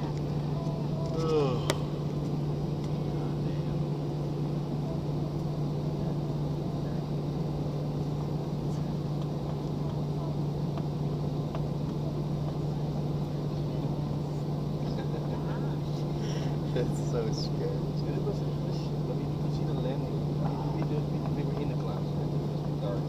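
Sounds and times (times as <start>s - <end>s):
jet engines droning: 0.0s - 23.0s
low hum: 0.0s - 23.0s.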